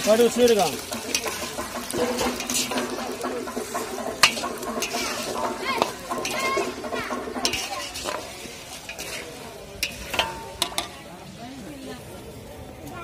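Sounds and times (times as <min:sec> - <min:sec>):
metal ladle scraping pan: 0:00.0 - 0:11.1
vegetables sizzling in hot oil: 0:00.0 - 0:12.1.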